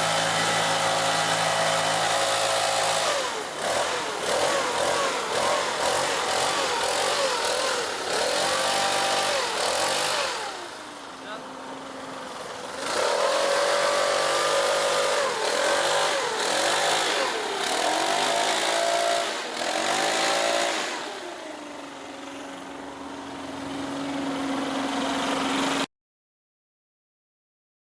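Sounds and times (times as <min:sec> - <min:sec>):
leaf blower engine revving: 0:00.0 - 0:25.9.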